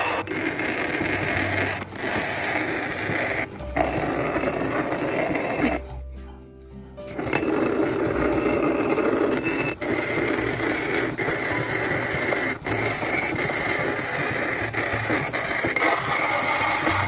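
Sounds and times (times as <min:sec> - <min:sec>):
grinding stone whirring: 0:00.0 - 0:05.9, 0:07.1 - 0:17.0.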